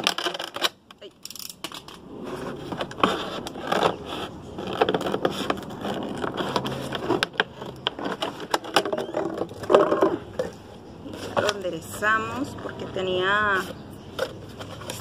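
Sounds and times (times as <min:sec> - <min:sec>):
plastic bottle crinkling: 0:00.0 - 0:13.0.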